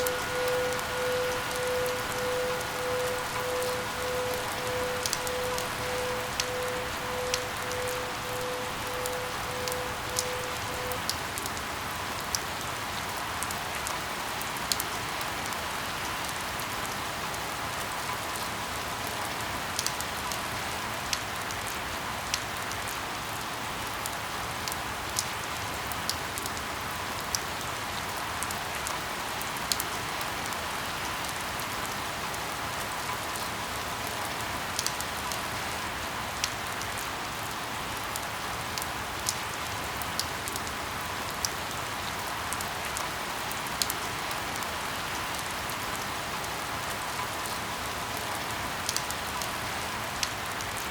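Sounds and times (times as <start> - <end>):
raindrops ticking close by: 0.0 - 50.9
steady rainfall: 0.0 - 50.9.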